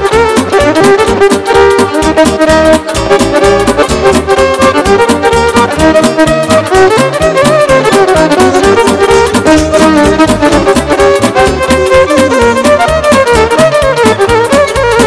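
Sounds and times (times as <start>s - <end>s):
band playing dance music: 0.0s - 15.0s
brass instruments melody: 0.0s - 15.0s
pulsing bass beat: 0.0s - 15.0s.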